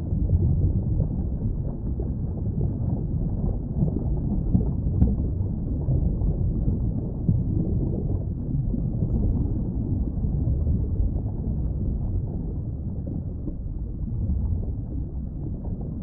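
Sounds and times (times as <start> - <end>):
muffled underwater rumble: 0.0 - 16.0.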